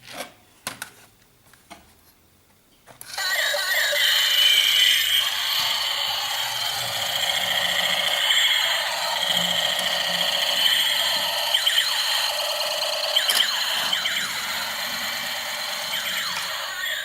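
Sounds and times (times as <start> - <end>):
toy electronic sound effects: 3.1 - 17.0.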